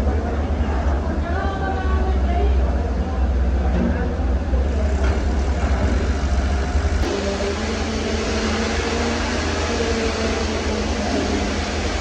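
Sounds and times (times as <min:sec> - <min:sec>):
diesel construction machinery running: 0:00.0 - 0:12.0.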